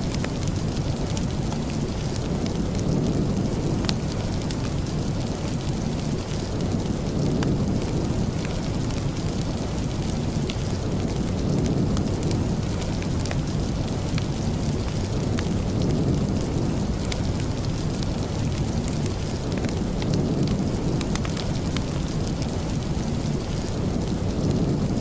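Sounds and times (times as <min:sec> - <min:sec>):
fireplace crackling: 0:00.0 - 0:25.0
steady rain: 0:00.0 - 0:25.0.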